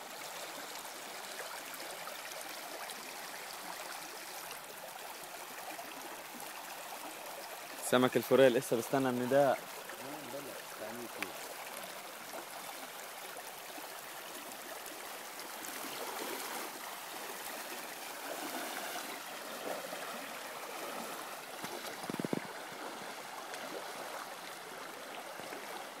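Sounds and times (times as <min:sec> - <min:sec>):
river running over rocks: 0:00.0 - 0:26.0.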